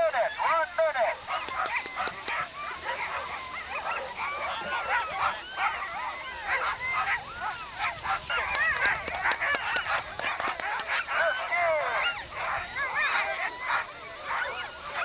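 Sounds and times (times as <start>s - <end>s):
dogs yelping and barking: 0.0s - 15.0s.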